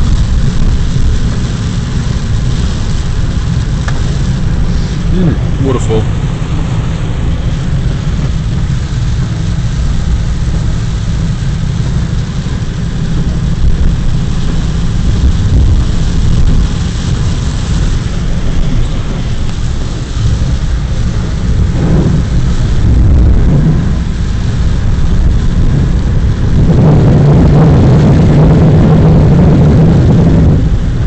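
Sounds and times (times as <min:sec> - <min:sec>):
car driving rumble: 0:00.0 - 0:31.0
rain and water hiss: 0:00.0 - 0:31.0.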